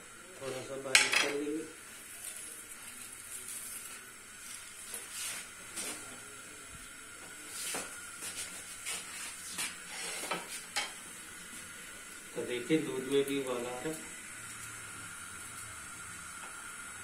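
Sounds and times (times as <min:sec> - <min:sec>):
steady kitchen hiss: 0:00.0 - 0:17.0.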